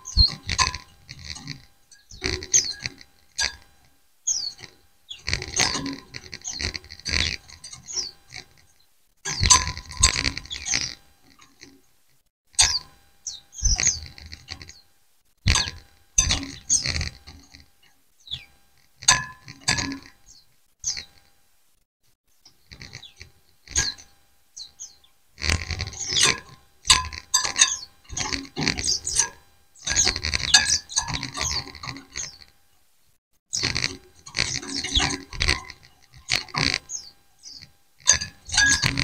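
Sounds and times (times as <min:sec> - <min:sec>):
flock of birds chirping: 0:00.0 - 0:11.9, 0:12.6 - 0:21.3, 0:22.3 - 0:32.8, 0:33.5 - 0:39.0.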